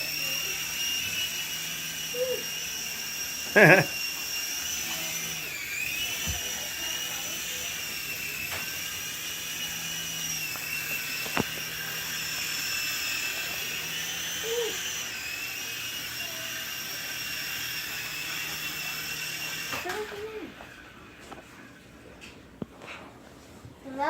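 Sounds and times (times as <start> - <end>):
toy helicopter rotor whine: 0.0 - 21.8.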